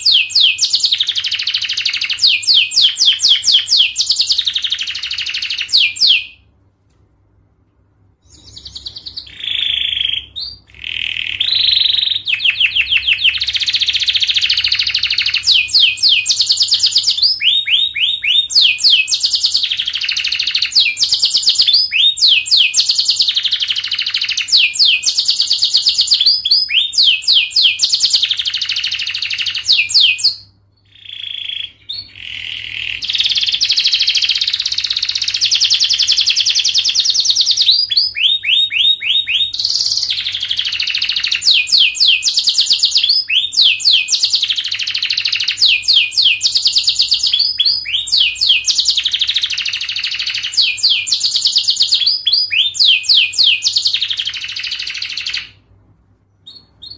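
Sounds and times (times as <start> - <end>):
canary singing trills: 0.0 - 6.5, 8.2 - 55.6, 56.4 - 56.9.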